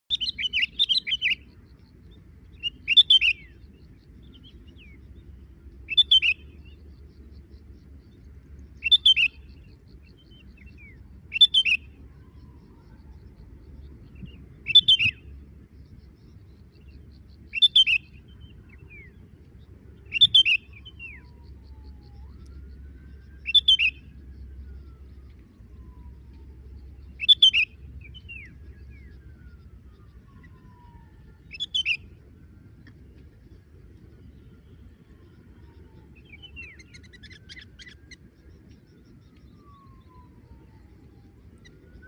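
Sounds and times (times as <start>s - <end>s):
bird chirpy calls: 0.1s - 8.0s, 8.6s - 19.2s, 20.0s - 32.2s, 34.2s - 40.8s
faint low hum: 0.1s - 42.0s.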